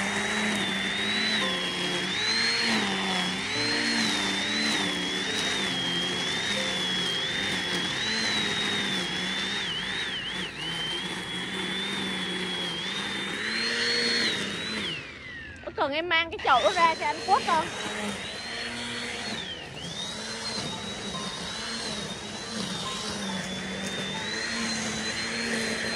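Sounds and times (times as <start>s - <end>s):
electric string trimmer whining: 0.0s - 25.9s.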